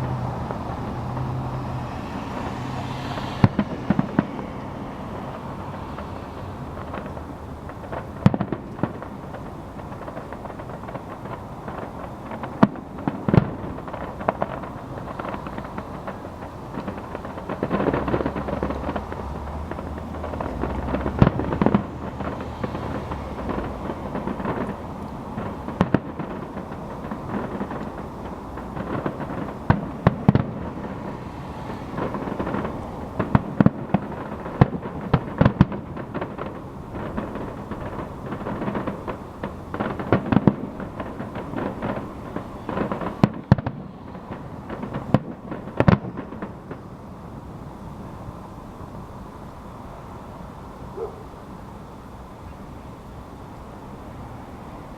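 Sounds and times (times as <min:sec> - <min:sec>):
fireworks shells bursting: 0:00.0 - 0:46.9
fireworks bangs and crackles: 0:00.0 - 0:52.1.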